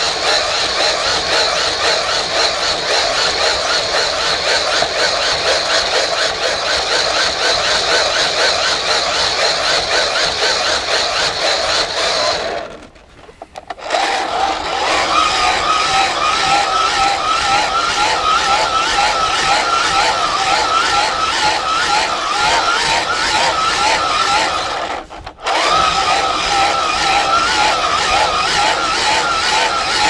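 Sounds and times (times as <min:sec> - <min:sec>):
battery tool whining and rasping: 0:00.0 - 0:30.0.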